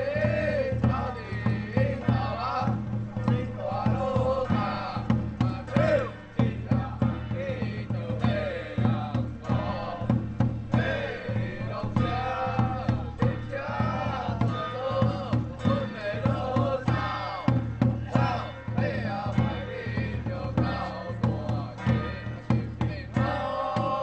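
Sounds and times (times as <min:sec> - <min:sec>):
drum beats: 0:00.0 - 0:24.0
other instruments: 0:00.0 - 0:24.0
voices chanting: 0:00.0 - 0:24.0.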